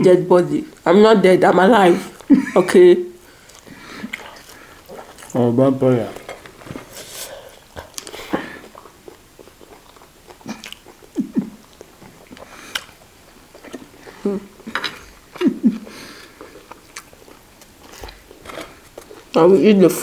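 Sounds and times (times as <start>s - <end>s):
chewing crunchy food: 3.2s - 19.8s.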